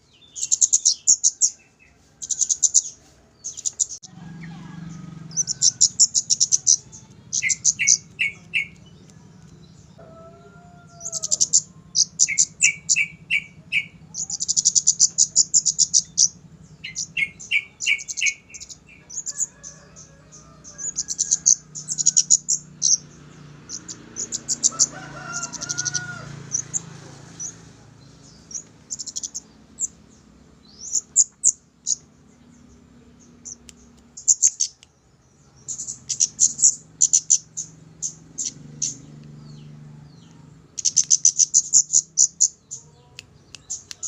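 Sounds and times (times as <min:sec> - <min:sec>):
bird trills and notes: 0:00.0 - 0:26.8, 0:28.2 - 0:39.8, 0:40.7 - 0:44.0.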